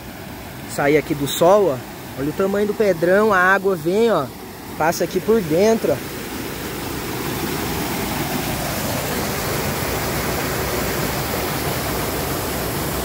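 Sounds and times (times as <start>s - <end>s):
creek water rushing between boulders: 0.0s - 13.0s.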